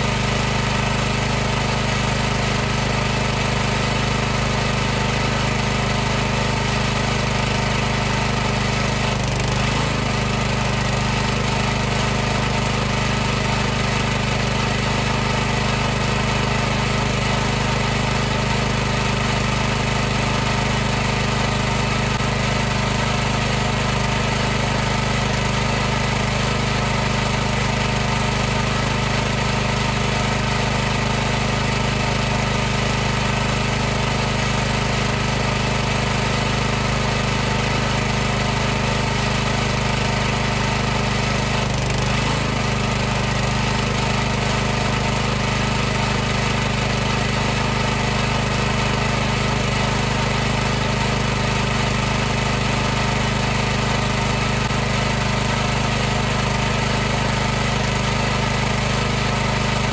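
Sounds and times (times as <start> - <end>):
pressure washer humming: 0.0 - 59.9.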